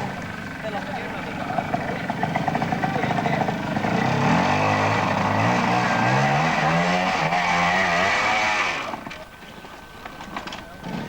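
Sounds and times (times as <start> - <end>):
motorcycle engine revving: 0.0 - 9.1, 10.8 - 11.0.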